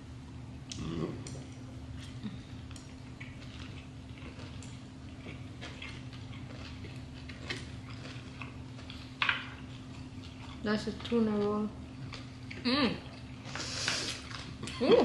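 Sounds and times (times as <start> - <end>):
steady low hum: 0.0 - 15.0
chewing and mouth clicks: 0.7 - 14.8.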